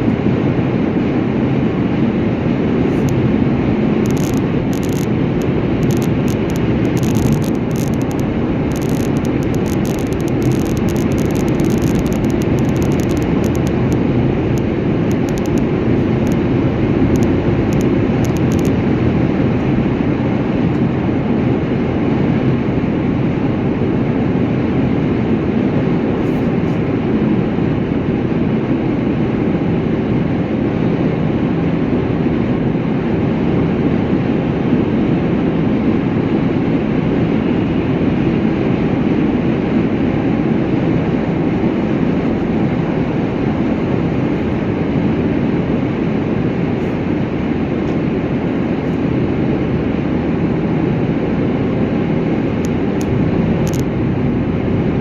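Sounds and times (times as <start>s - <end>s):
vehicle rumble and road noise: 0.0s - 55.0s.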